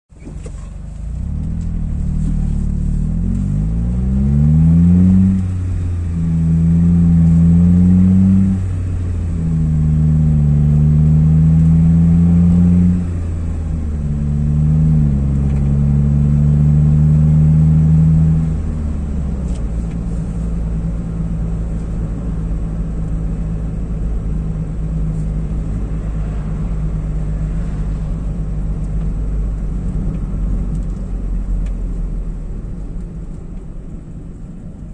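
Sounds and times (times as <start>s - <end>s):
car engine accelerating through gears: 0.1s - 34.9s.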